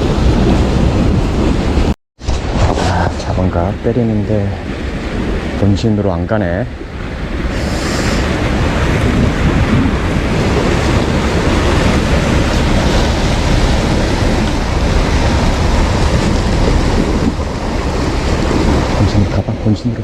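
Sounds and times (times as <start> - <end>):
sea surf washing in: 0.0 - 20.0
wind on microphone: 0.0 - 20.0.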